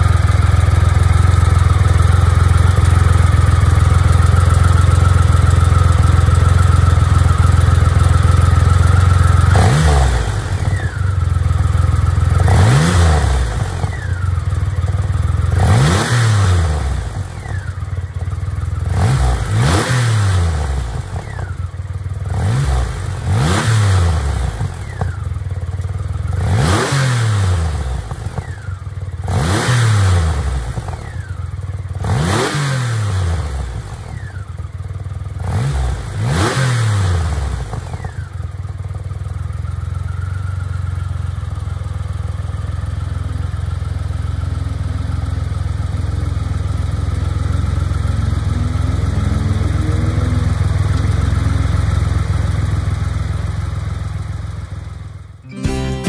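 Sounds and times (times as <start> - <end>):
motorcycle engine revving: 0.0 - 55.4.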